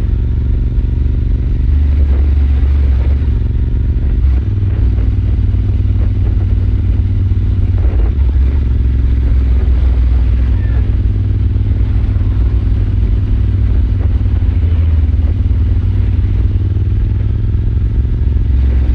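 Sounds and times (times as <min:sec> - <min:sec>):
deep exhaust note: 0:00.0 - 0:18.9
motorcycle engine running: 0:00.0 - 0:18.9.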